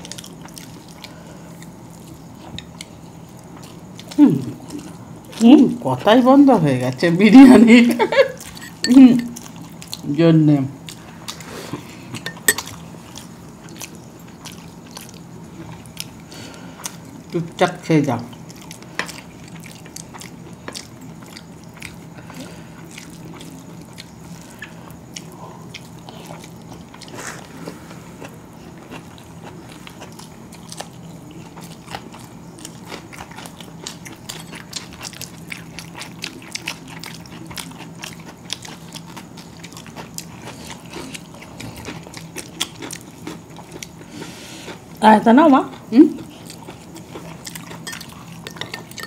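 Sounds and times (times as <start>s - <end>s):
chewing and lip-smacking: 0.0s - 5.5s, 8.3s - 10.1s, 10.8s - 17.3s, 18.3s - 45.0s, 45.7s - 49.0s
low steady hum: 0.0s - 49.0s.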